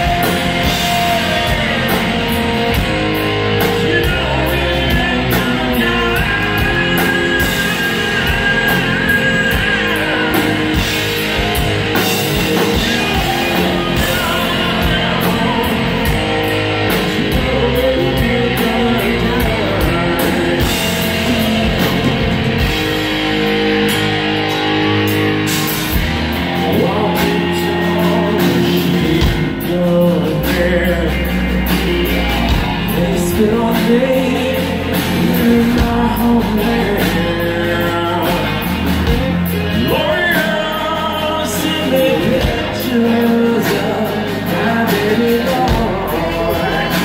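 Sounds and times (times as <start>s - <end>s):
drum kit: 0.0s - 47.0s
electric guitars: 0.0s - 47.0s
person singing: 0.0s - 47.0s.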